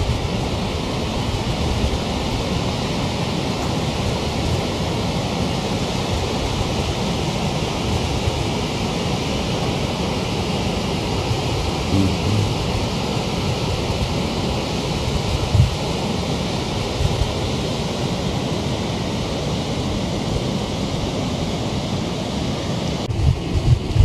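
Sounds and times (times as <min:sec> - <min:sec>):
water rushing through dam: 0:00.0 - 0:24.0.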